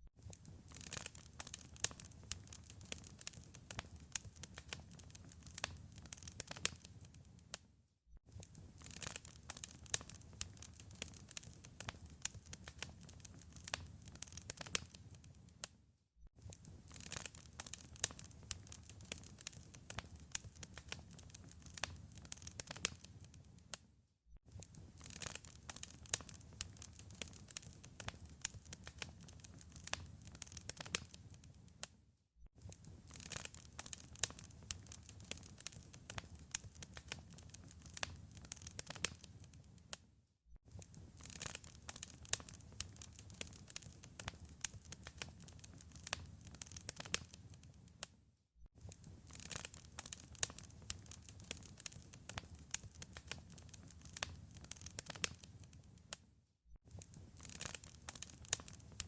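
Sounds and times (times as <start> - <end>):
wood fire crackling: 0.2 - 7.6, 8.3 - 15.7, 16.4 - 23.8, 24.5 - 31.9, 32.6 - 40.0, 40.7 - 48.0, 48.8 - 56.2, 56.9 - 59.0.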